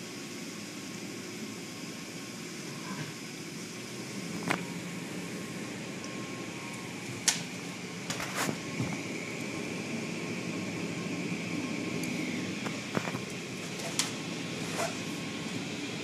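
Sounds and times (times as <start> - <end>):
car wash machinery whirring: 0.0 - 16.0.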